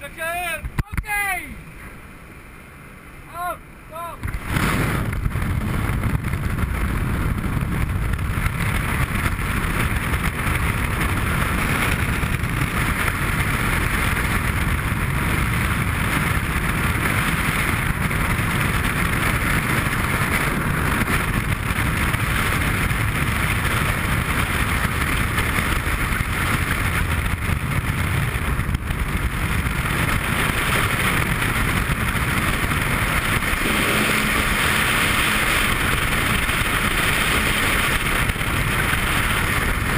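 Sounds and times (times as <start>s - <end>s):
freefall wind buffeting microphone: 0.0s - 39.9s.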